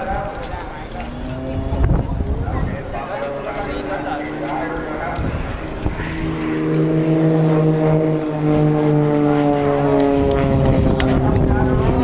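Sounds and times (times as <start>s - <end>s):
propeller plane engine buzzing: 0.0s - 12.0s.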